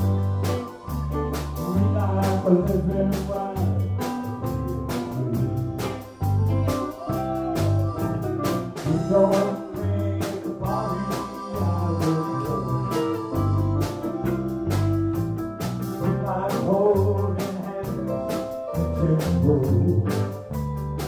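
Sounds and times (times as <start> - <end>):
person singing: 0.0 - 15.0, 16.0 - 20.4
live country band playing: 0.0 - 21.0.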